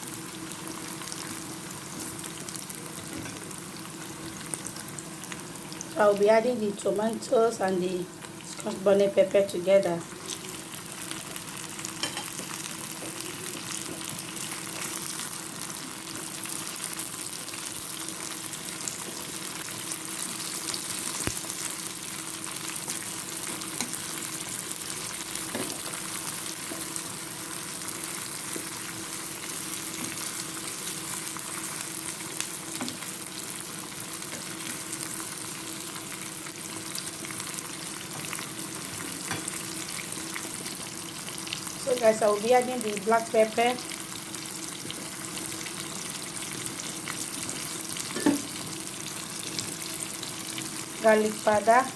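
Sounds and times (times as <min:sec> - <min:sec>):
vegetables sizzling in a pan: 0:00.0 - 0:51.9.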